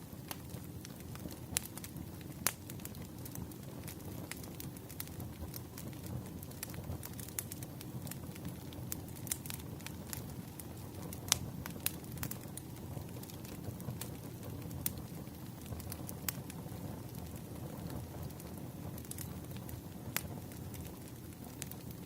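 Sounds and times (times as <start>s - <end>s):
low rush of flames: 0.0s - 22.0s
wood fire crackling and popping: 0.0s - 22.0s.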